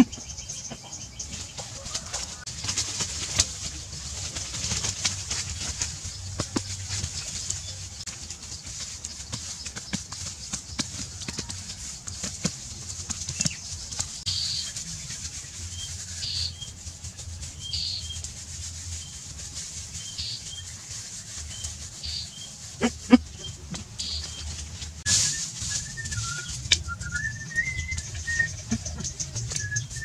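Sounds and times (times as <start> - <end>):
wet hands rubbing mud: 2.0 - 30.0.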